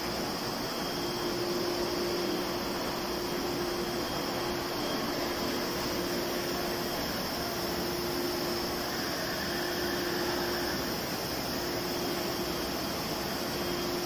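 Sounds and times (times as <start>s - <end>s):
factory machinery whirring: 0.0s - 14.0s
steady hum: 0.0s - 14.0s.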